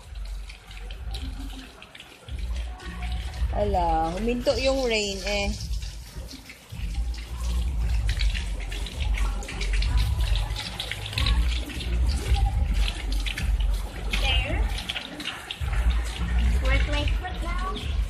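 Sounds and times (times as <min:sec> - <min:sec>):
slippers slapping through puddles: 0:00.0 - 0:18.0
water splashing on concrete: 0:00.0 - 0:18.0.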